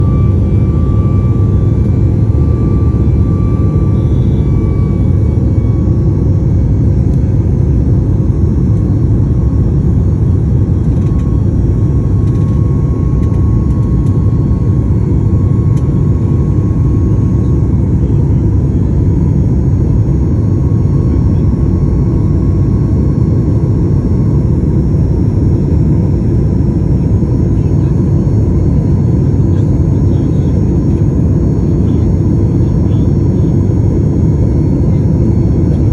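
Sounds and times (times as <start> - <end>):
jet engines at take-off: 0.0 - 35.9.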